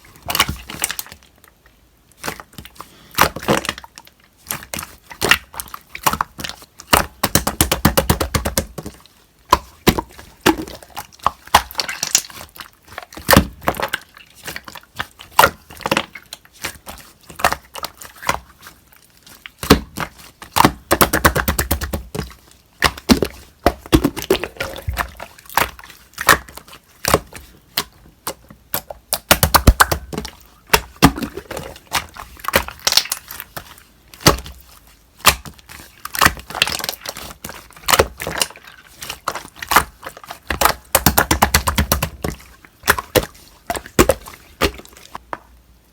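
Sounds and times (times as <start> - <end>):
slime crackling and popping: 2.2 - 18.6, 19.4 - 45.3.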